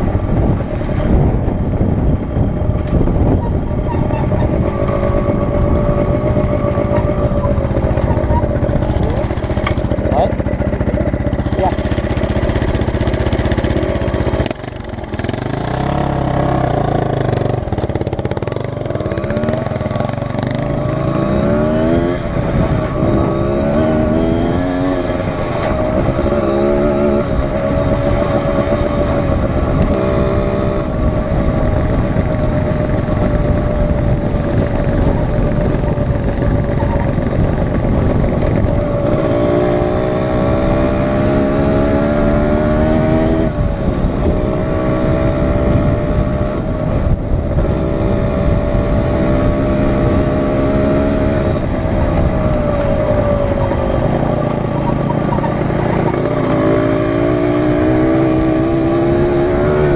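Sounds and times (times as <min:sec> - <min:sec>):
dirt bike engine revving: 0:03.4 - 0:31.4, 0:32.6 - 0:46.7, 0:47.5 - 0:59.9.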